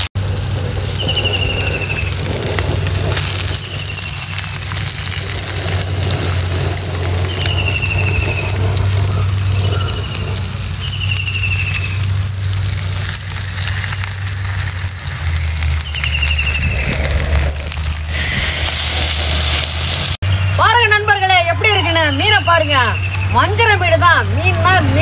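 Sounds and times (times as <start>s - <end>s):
low hum: 0.0s - 20.6s
fish frying in oil: 0.0s - 20.7s.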